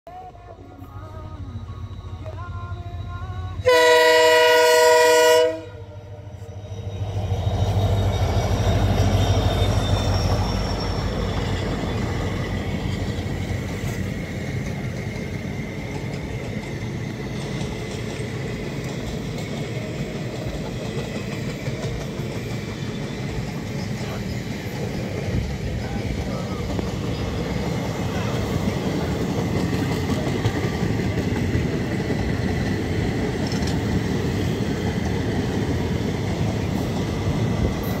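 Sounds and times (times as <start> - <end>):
train rumbling past: 0.1 - 38.0.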